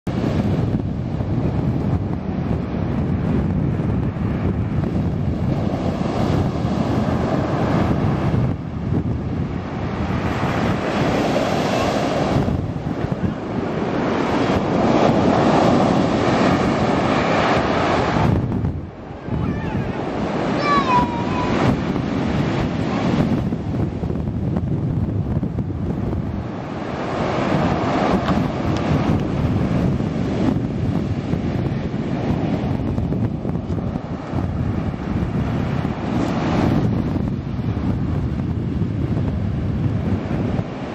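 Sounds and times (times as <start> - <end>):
wind buffeting microphone: 0.0 - 40.9
sea waves breaking: 0.1 - 40.9.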